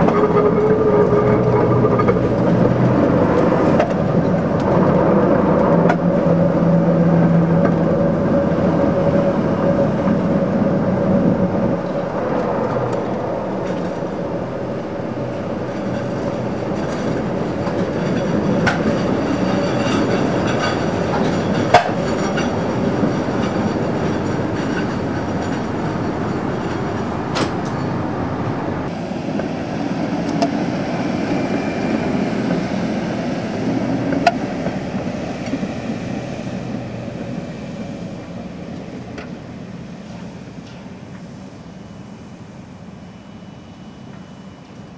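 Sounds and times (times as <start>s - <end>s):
streetcar running hum: 0.0s - 44.9s
wheel and rail noise: 0.0s - 44.9s.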